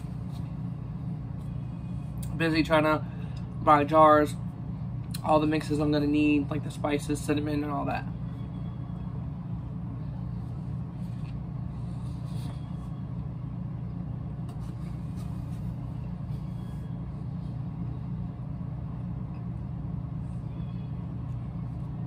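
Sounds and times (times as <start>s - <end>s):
motor or fan humming: 0.0s - 22.0s.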